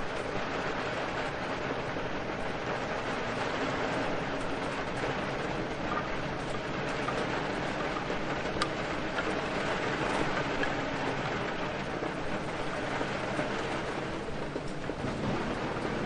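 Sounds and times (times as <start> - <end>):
raindrop ticks: 0.0 - 16.0
steady rain hiss: 0.0 - 16.0.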